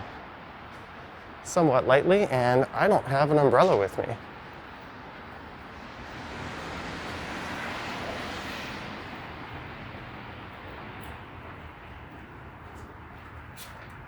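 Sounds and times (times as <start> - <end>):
tyres hissing on wet road: 0.1 - 11.4.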